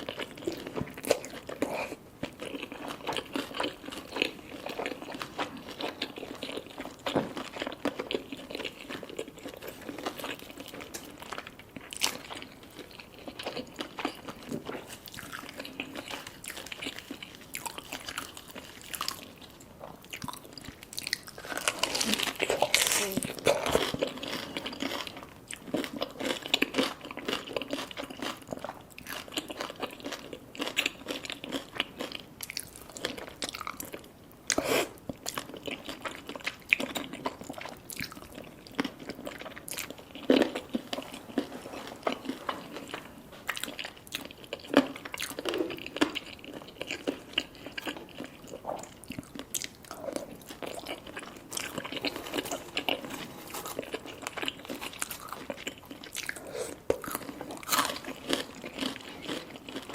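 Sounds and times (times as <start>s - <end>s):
crunchy food being chewed: 0.0s - 59.9s.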